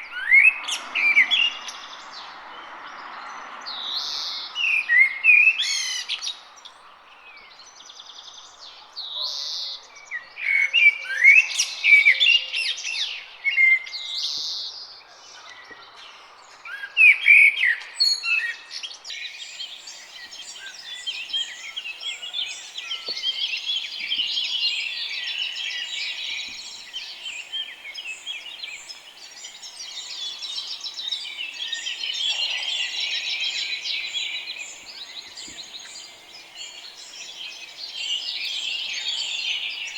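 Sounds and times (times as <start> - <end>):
chorus of birds chirping: 0.0 - 17.8, 18.6 - 39.9
songbirds singing: 0.0 - 39.9.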